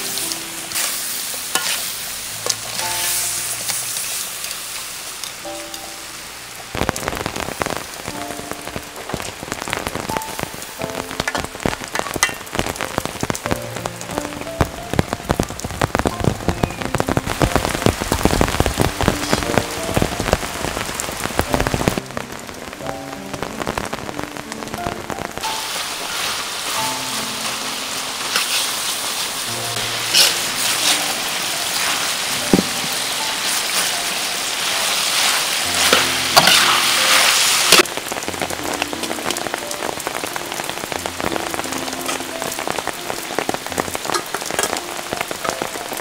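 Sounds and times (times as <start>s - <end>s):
food sizzling with crackling pops: 0.0s - 46.0s.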